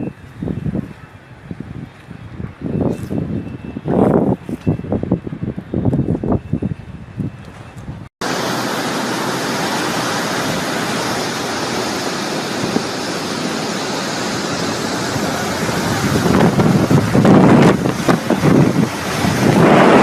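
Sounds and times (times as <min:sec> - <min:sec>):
wind and heavy rain roaring: 0:00.0 - 0:20.0
wind buffeting microphone: 0:00.0 - 0:20.0.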